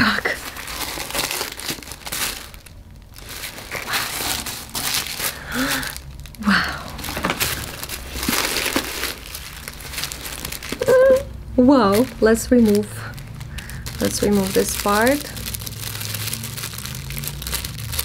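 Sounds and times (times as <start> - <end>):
tissue paper rustling: 0.0 - 18.0.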